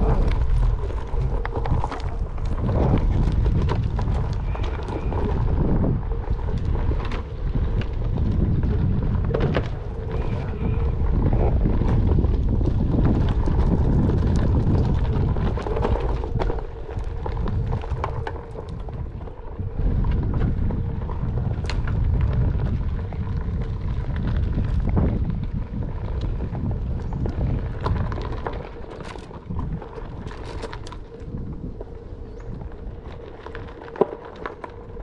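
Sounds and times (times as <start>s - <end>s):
grit crackling under wheels: 0.0s - 35.0s
skateboard wheels rolling on dirt: 0.0s - 35.0s
wind on microphone: 0.0s - 35.0s.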